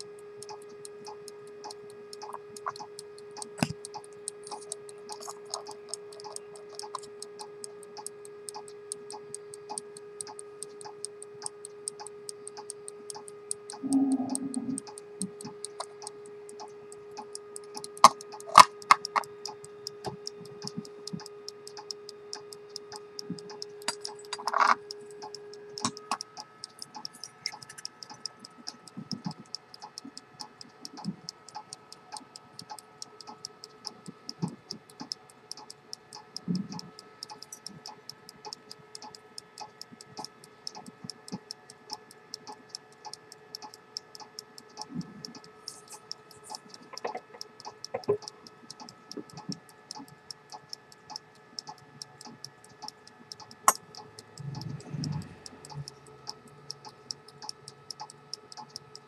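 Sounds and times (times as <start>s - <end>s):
electrical hum: 0.0s - 59.0s
pocket watch ticking: 0.0s - 59.0s.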